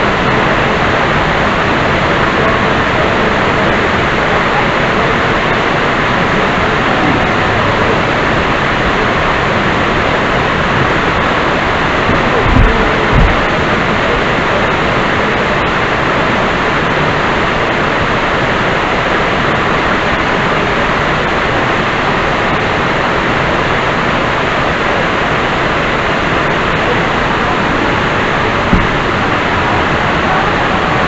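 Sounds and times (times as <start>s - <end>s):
waterfall rushing water: 0.0s - 31.0s.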